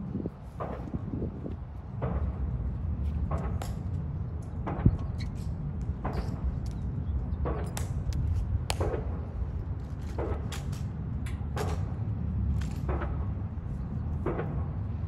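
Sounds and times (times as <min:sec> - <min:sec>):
steady low rumble: 0:00.0 - 0:15.0
sharp heel and rifle clicks: 0:00.5 - 0:14.9.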